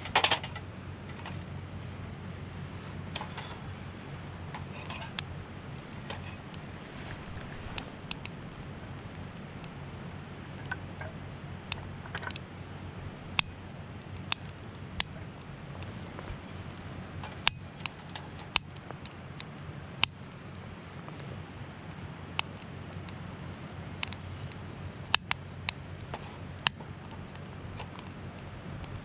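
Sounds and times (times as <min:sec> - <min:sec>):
campfire crackling: 0:00.0 - 0:29.0
low background rumble: 0:00.0 - 0:29.0
fire pops and snaps: 0:00.1 - 0:29.0.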